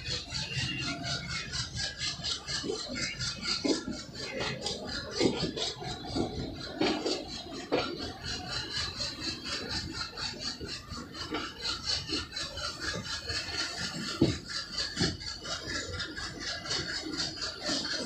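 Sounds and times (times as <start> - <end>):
diesel locomotives chugging: 0.0 - 18.0
moving train running noise: 0.0 - 18.0.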